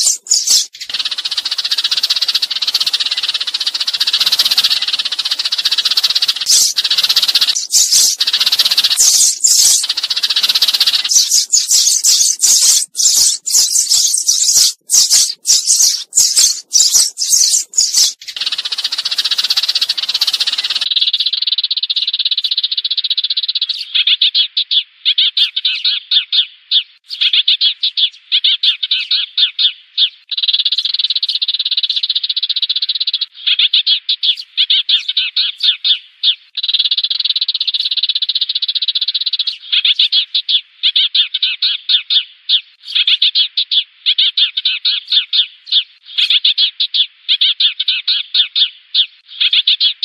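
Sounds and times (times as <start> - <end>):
sparrows chirping: 0.0 - 50.0.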